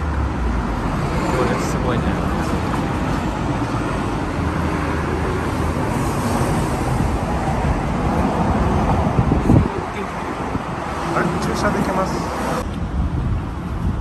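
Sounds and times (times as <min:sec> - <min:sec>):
street traffic passing: 0:00.0 - 0:14.0.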